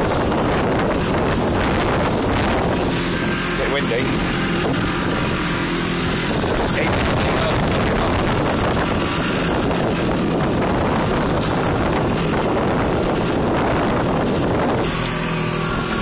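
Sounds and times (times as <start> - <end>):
motorboat engine hum: 0.0 - 16.0
wind buffeting microphone: 0.0 - 16.0.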